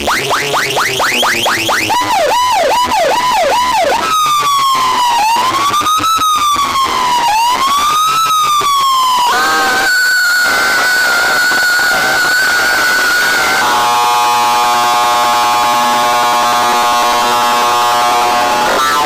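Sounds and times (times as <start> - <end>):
electronic siren sound effect: 0.0 - 19.0.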